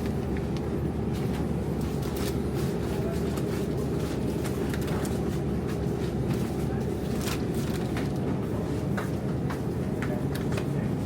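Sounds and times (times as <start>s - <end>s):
supermarket background hum: 0.0s - 11.0s.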